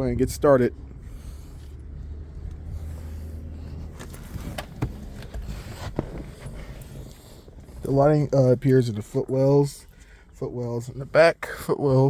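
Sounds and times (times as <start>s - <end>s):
low hum inside car cabin: 0.0s - 12.0s.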